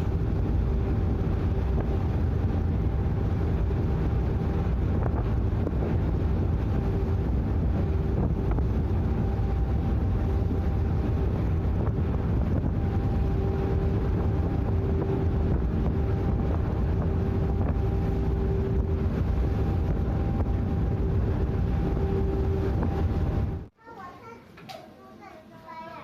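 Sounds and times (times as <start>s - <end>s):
wind buffeting microphone: 0.0s - 23.7s
ship engine rumbling: 0.0s - 24.1s.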